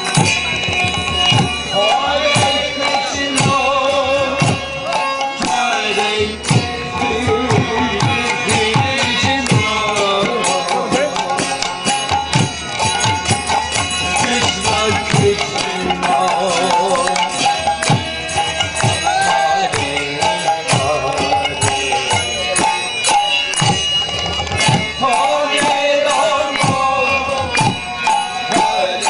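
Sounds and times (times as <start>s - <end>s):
group singing: 0.0s - 11.8s, 13.5s - 23.6s, 24.6s - 29.0s
drums beating steady rhythm: 0.0s - 29.0s
harmonium held notes: 0.0s - 29.0s.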